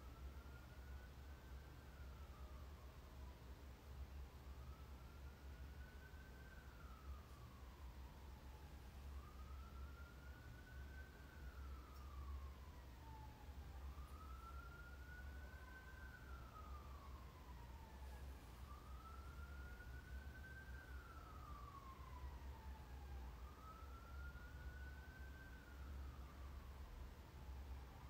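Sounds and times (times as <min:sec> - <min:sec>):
faint siren wailing: 0:00.0 - 0:28.0
low steady hum: 0:00.0 - 0:28.0.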